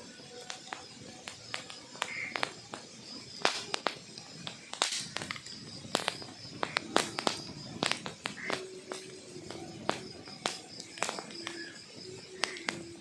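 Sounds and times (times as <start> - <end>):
logs crackling and popping: 0.0 - 13.0.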